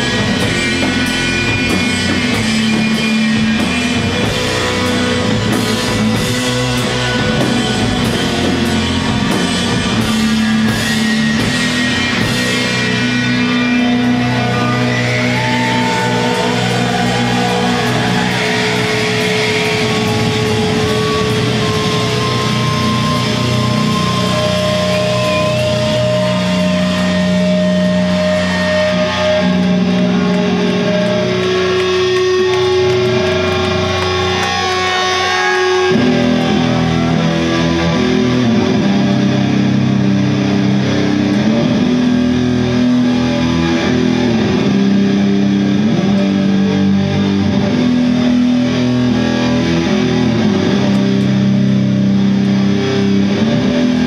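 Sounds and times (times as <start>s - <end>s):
doom metal band playing live: 0.0s - 54.0s
electric guitars low sustained chords: 0.0s - 54.0s.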